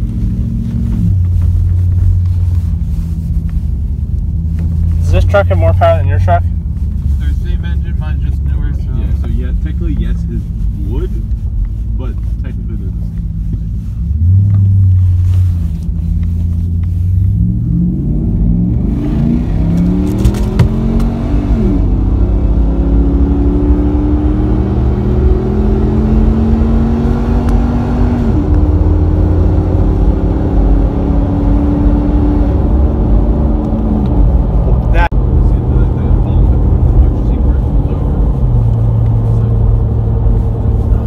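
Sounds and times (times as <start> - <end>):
truck engine accelerating: 0.0 - 41.0.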